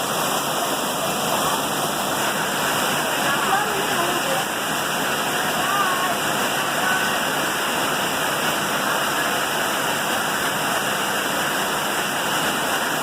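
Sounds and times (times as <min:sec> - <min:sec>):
heavy rain downpour: 0:00.0 - 0:13.0
rushing runoff water: 0:00.0 - 0:13.0.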